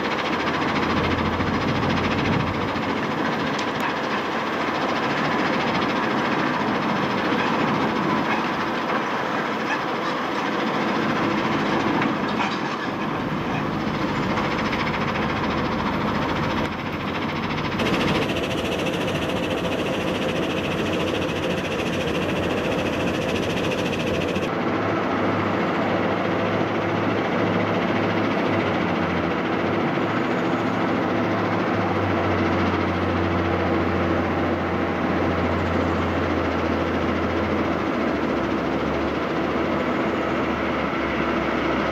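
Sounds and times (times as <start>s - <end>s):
heavy machinery diesel engines: 0.0s - 41.9s.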